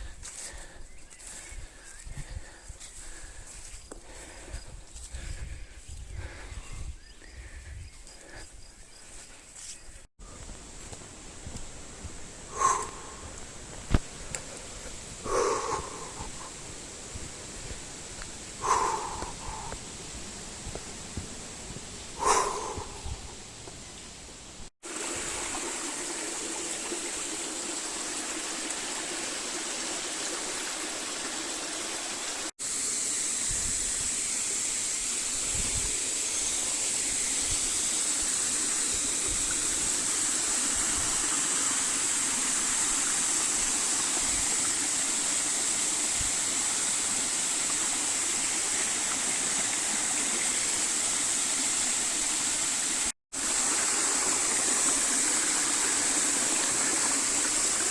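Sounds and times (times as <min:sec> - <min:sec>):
stream flowing water: 0:10.2 - 0:57.9.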